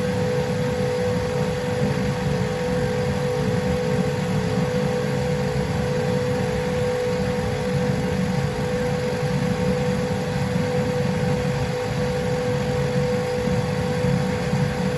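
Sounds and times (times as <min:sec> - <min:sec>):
mechanical hum and hiss: 0:00.0 - 0:14.9
milling machine spindle whine: 0:00.0 - 0:14.9.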